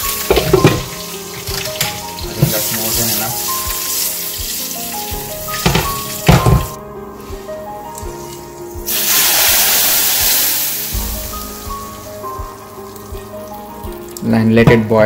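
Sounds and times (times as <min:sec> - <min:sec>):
hot oil hissing into liquid: 0:00.0 - 0:07.5, 0:08.8 - 0:14.2.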